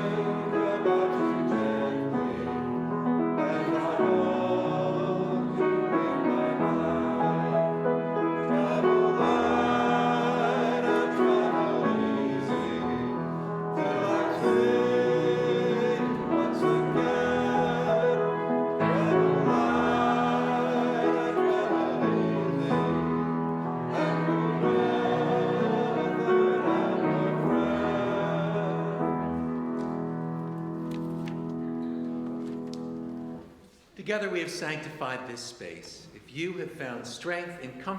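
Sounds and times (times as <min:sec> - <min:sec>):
congregation singing a hymn: 0:00.0 - 0:33.8
instrumental accompaniment: 0:00.0 - 0:33.8.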